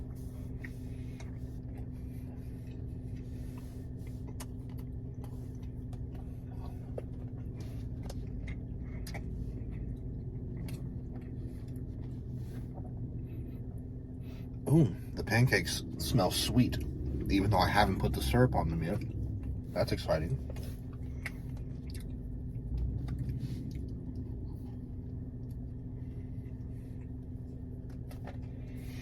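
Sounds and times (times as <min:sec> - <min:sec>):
chewing a biscuit: 0:00.0 - 0:29.0
steady low hum: 0:00.0 - 0:29.0.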